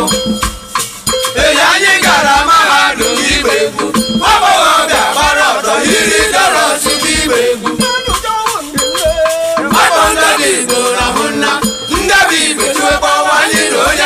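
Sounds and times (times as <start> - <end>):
steady drum beat: 0.0 - 14.0
voices singing: 0.0 - 14.0.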